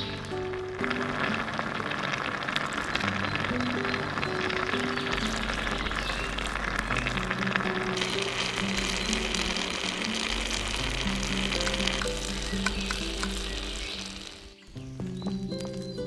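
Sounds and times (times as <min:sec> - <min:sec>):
noodles sizzling in a pot: 0:00.0 - 0:14.6
background music: 0:00.0 - 0:16.0.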